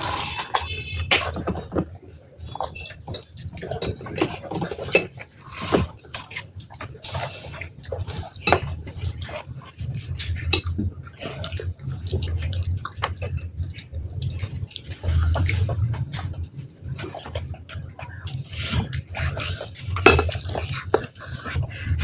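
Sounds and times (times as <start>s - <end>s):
chewing and mouth noises: 0.0s - 22.0s.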